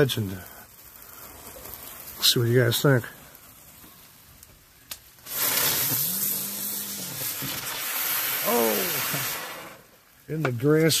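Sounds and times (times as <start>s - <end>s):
firework hissing sparks: 0.0s - 11.0s.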